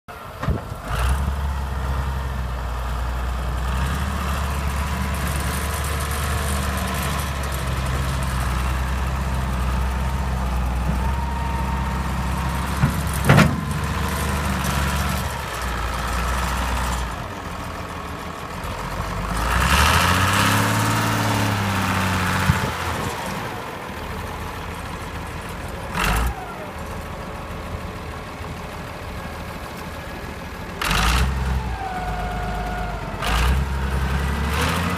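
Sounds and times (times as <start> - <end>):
diesel engine idling and revving: 0.1 - 34.9.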